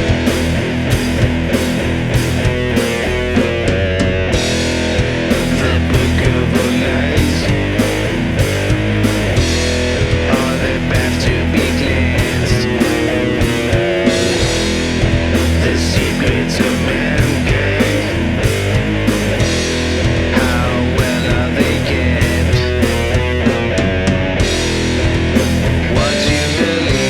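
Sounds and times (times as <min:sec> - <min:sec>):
bass: 0:00.0 - 0:27.0
heavy distorted electric guitars: 0:00.0 - 0:27.0
steady drum beat: 0:00.0 - 0:27.0.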